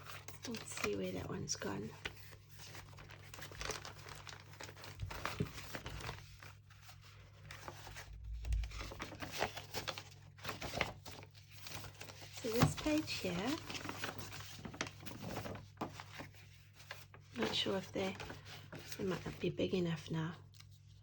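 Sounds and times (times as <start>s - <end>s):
paper pages rustling: 0.0s - 19.6s.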